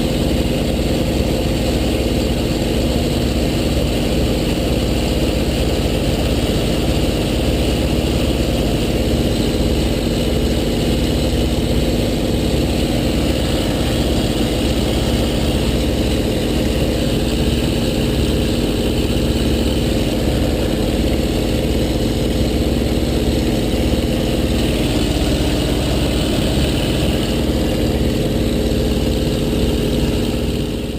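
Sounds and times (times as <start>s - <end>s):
model plane motor droning: 0.0s - 30.9s.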